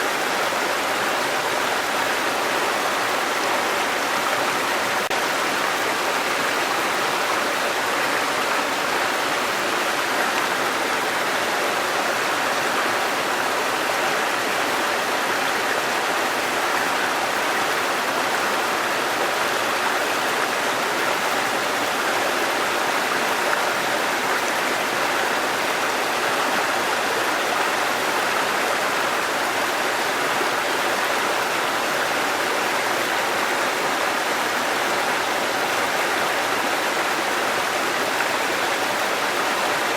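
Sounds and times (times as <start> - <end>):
waterfall and rushing stream: 0.0 - 39.9.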